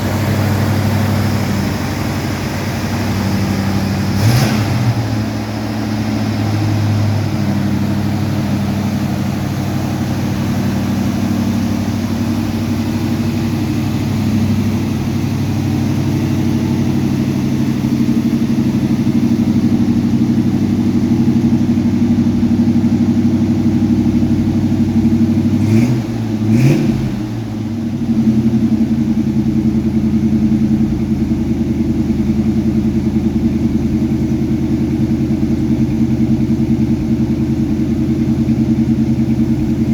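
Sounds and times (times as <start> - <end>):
pickup engine running and revving: 0.0 - 39.9.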